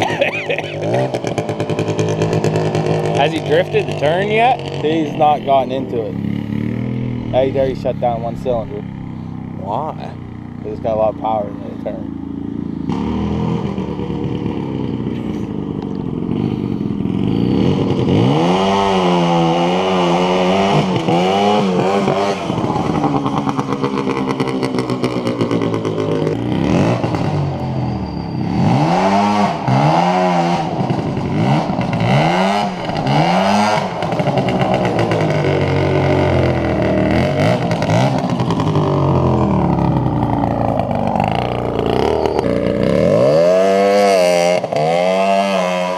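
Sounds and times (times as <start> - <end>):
go-kart engine revving: 0.0 - 45.9.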